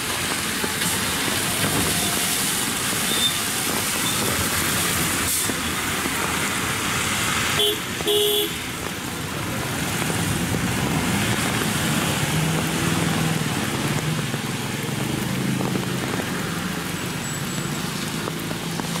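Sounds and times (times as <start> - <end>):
rain falling on wet road: 0.0 - 19.0.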